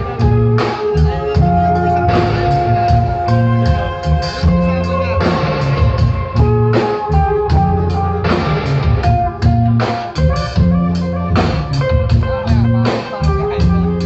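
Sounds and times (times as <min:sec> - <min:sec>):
drum and cymbal hits: 0:00.0 - 0:14.0
live band playing: 0:00.0 - 0:14.0.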